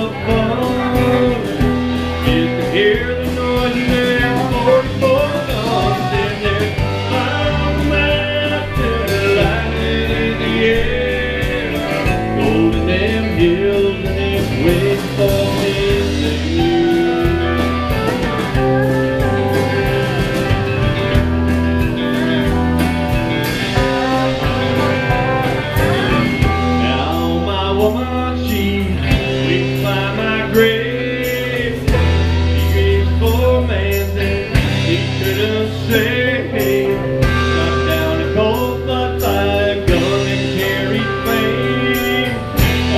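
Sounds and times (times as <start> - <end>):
drums: 0.0 - 42.9
electric guitars: 0.0 - 42.9
steel guitar: 0.0 - 42.9.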